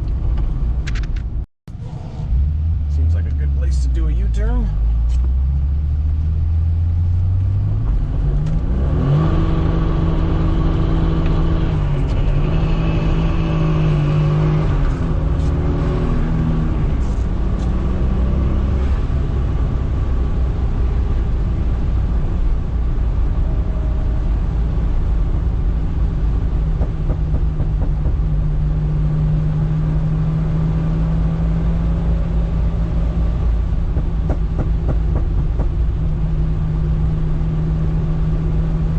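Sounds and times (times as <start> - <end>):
car engine revving: 1.7 - 38.9.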